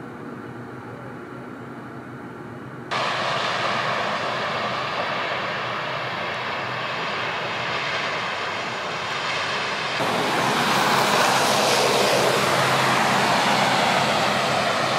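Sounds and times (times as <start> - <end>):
outdoor hiss and rumble: 0.0 - 14.9.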